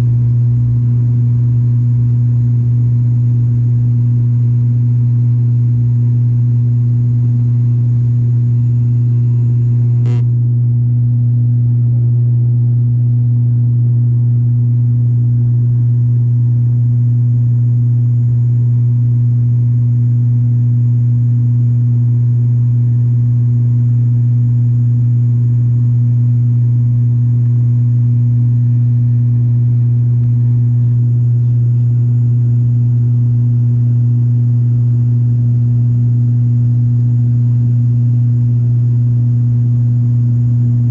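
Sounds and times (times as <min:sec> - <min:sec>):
turboprop engines droning in cabin: 0:00.0 - 0:40.9.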